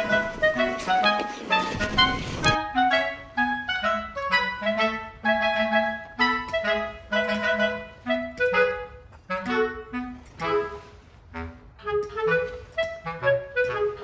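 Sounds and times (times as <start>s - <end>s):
clarinet-like woodwind melody: 0.0s - 14.0s.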